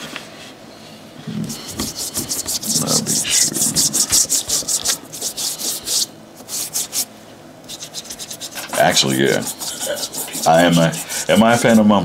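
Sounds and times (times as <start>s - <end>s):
hand brush scrubbing shoe sole: 1.5s - 7.1s, 7.7s - 11.8s.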